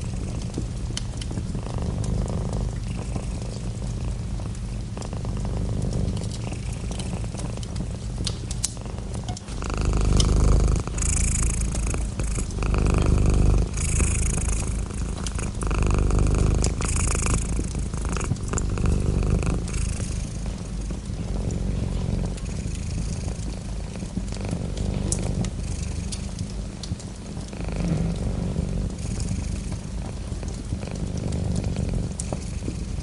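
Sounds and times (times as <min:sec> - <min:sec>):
cat purring: 0:00.0 - 0:33.0
sharp crackles: 0:00.0 - 0:33.0.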